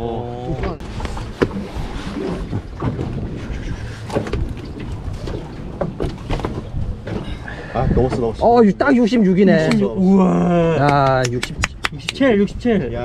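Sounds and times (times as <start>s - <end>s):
boat low rumble: 0.0s - 13.0s.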